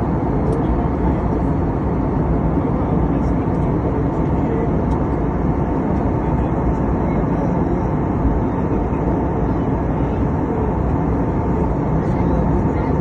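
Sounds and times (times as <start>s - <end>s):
aeroplane cabin engine rumble: 0.0s - 13.0s.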